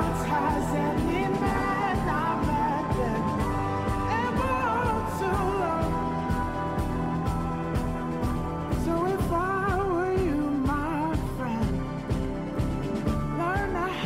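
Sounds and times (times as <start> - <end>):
person singing: 0.0 - 12.4, 13.1 - 14.0
sustained chords: 0.0 - 13.4
steady beat: 0.0 - 13.8.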